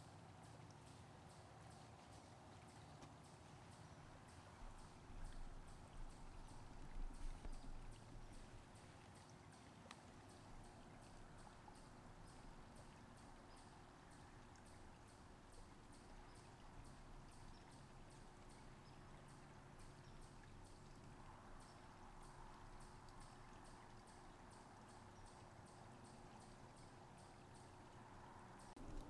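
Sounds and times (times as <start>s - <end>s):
low steady hum: 0.0s - 29.0s
soft high-pitched ticks: 0.0s - 29.0s.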